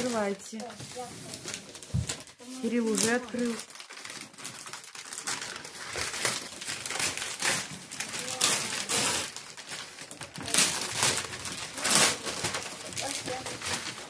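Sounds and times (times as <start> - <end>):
wrapping paper crinkling and tearing: 0.0 - 14.0.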